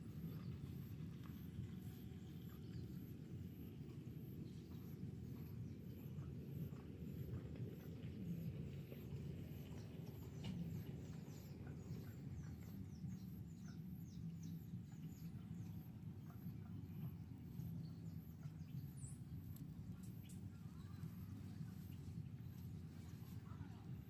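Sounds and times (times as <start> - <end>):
finches chirping faintly: 0.0 - 24.0
low steady rumble: 0.0 - 24.0.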